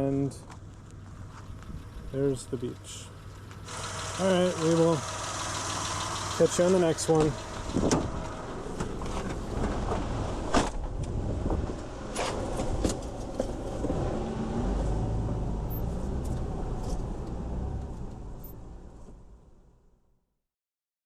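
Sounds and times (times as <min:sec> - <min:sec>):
car engine rumbling: 0:00.0 - 0:20.1.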